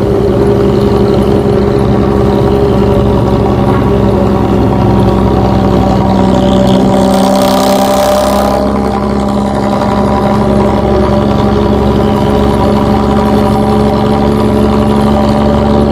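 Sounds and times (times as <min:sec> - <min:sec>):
bus engine through loud exhaust: 0:00.0 - 0:15.9.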